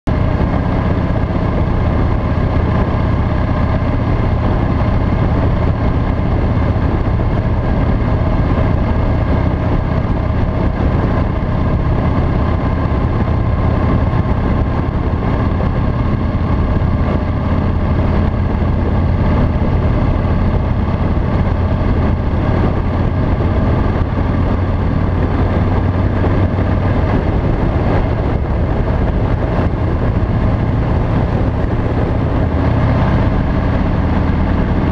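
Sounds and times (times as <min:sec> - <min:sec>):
motorcycle engine cruising: 0:00.0 - 0:34.9.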